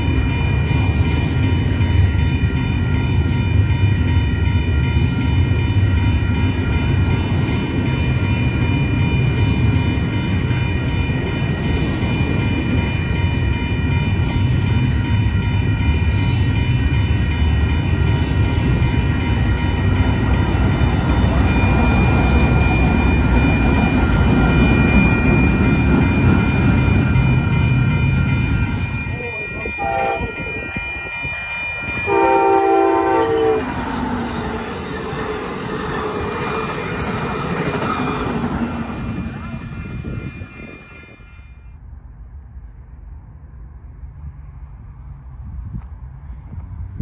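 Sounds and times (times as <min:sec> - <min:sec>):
train wheels rumbling: 0:00.0 - 0:41.2
high ringing tones: 0:00.0 - 0:41.8.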